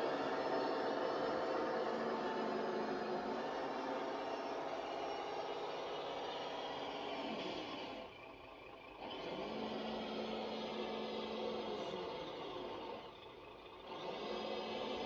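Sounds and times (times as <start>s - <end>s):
toy truck electric motor whirring: 0.0s - 15.0s.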